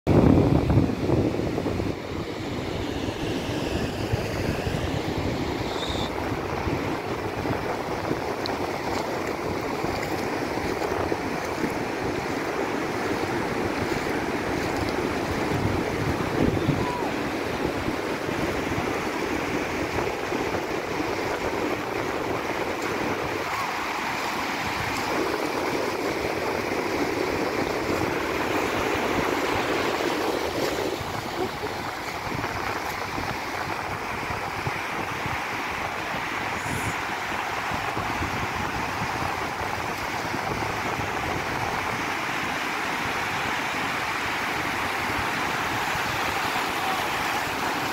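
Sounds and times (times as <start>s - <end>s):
surf washing over sand: 0.1s - 47.9s.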